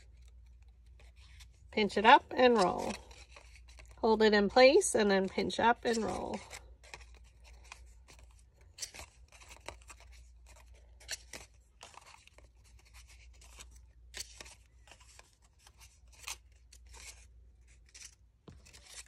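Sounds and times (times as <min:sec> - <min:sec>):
paper crinkles: 0:00.0 - 0:04.0, 0:05.2 - 0:19.0
paper rustling and scraping: 0:00.0 - 0:04.0, 0:04.7 - 0:19.0.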